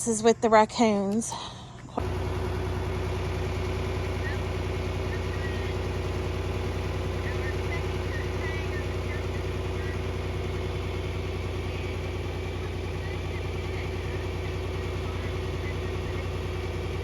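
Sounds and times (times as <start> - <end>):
vehicle engine idling: 2.0 - 17.0.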